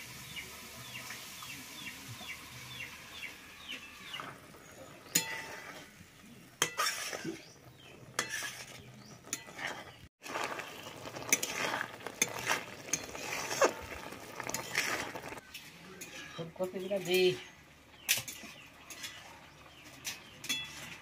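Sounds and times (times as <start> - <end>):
curry sizzling: 0.0 - 21.0
spatula scraping metal pan: 3.5 - 17.4, 18.0 - 21.0.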